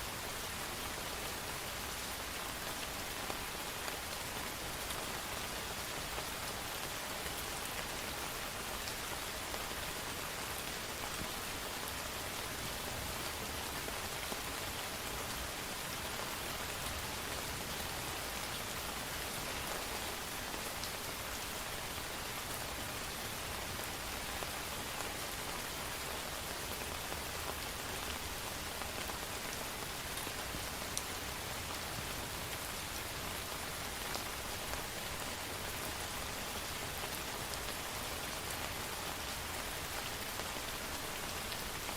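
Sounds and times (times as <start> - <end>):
rain pattering on hard surfaces: 0.2 - 41.9.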